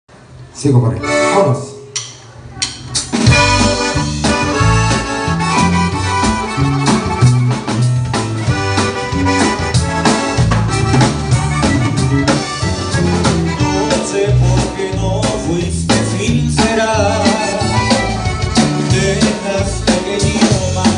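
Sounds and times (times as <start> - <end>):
guitar: 0.4 - 20.9
accordion: 0.8 - 1.9, 3.0 - 20.9
drums: 1.7 - 20.9.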